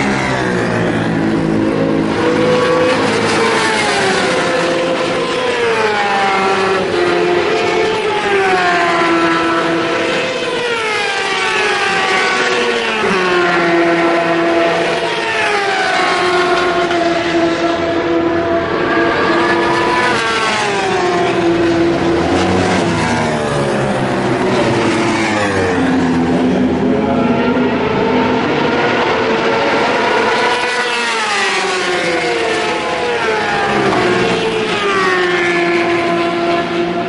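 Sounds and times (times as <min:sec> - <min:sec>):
racing motorcycles passing at speed: 0:00.0 - 0:37.0.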